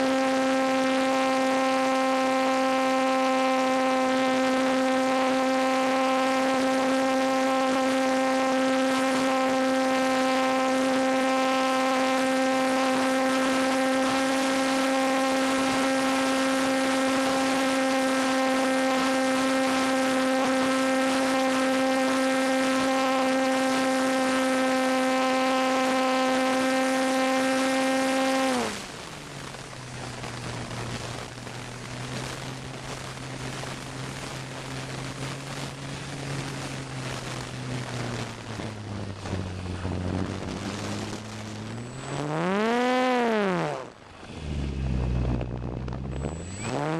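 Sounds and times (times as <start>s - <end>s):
electric motor and propeller whining: 0.0s - 46.9s.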